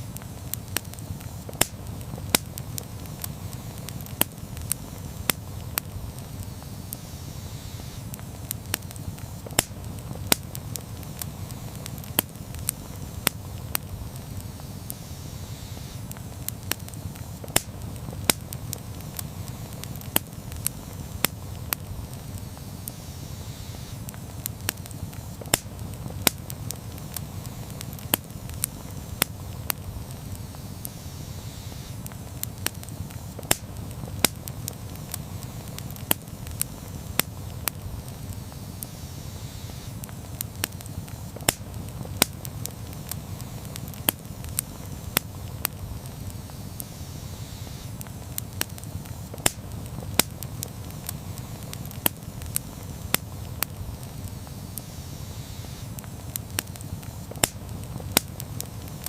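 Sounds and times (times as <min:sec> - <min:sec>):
campfire low rush: 0:00.0 - 0:59.0
fire crackles and pops: 0:00.0 - 0:59.0.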